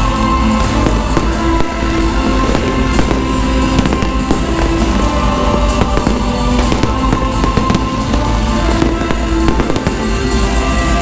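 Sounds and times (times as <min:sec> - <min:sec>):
loud music with held notes: 0:00.0 - 0:11.0
fireworks cracking and popping: 0:00.4 - 0:11.0.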